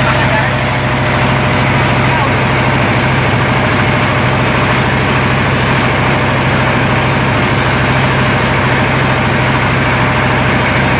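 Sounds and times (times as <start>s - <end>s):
broad rushing noise: 0.0s - 10.9s
motor boat engine humming: 0.0s - 10.9s.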